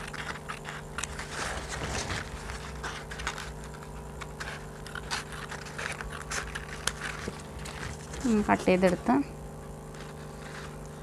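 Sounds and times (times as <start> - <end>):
scissors snipping paper: 0.0 - 9.0.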